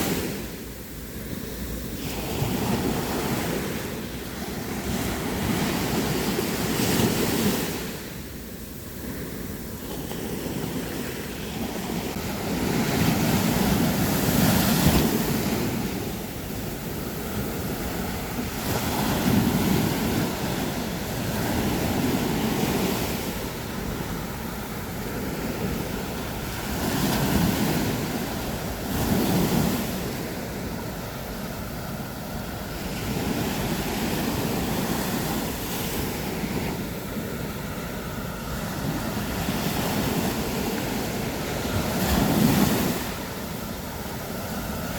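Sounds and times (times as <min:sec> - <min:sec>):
sea waves breaking on beach: 0:00.0 - 0:44.9
wind rumbling on microphone: 0:00.0 - 0:44.9.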